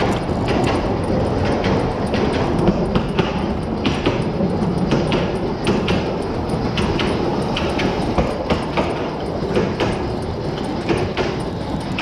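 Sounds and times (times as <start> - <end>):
sharp wheel clicks: 0.0 - 12.0
steam locomotive rumble: 0.0 - 12.0.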